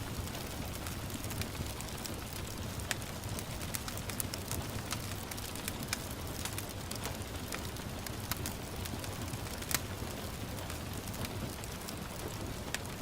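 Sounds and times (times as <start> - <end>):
gentle rain: 0.0 - 13.0
wood fire crackling: 0.0 - 13.0.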